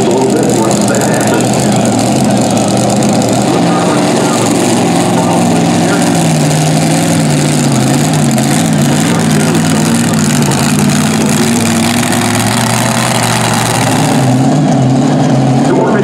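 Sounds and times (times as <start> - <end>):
tractor engine running hard: 0.0 - 16.0.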